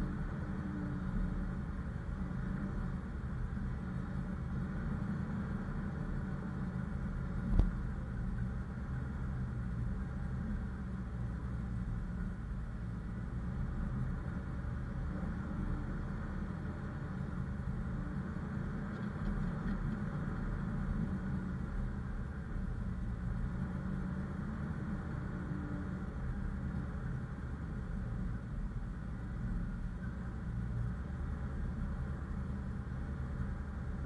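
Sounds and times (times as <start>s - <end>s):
off-road vehicle engine rumbling: 0.0s - 34.0s.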